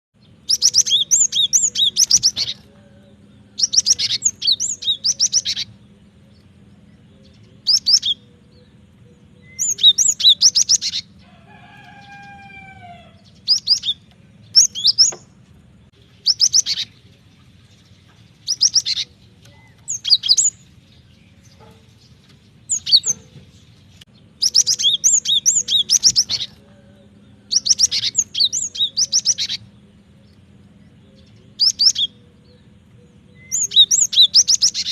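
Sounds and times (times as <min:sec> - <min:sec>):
bird chattering song: 0:00.2 - 0:34.9
steady low hum: 0:00.2 - 0:34.9.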